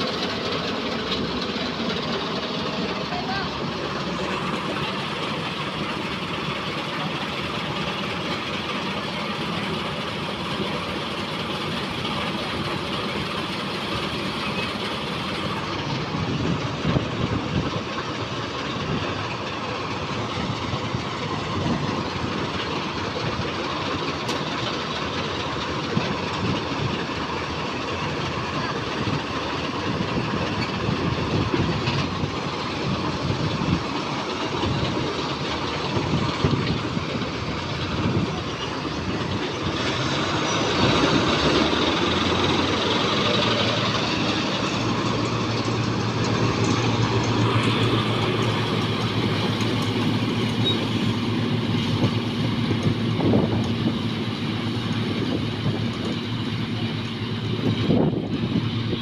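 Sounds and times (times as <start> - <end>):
combine harvester engine: 0.0 - 59.0.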